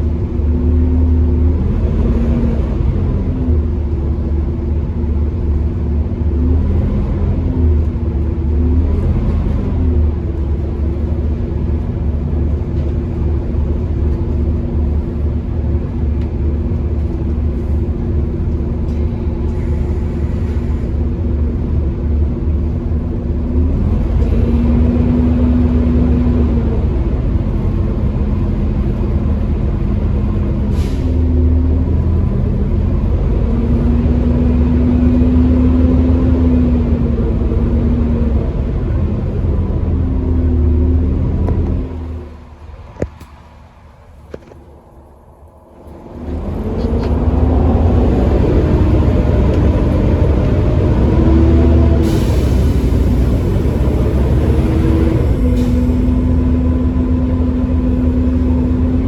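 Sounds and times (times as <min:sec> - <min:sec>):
bus engine whining and rumbling: 0:00.0 - 0:59.0.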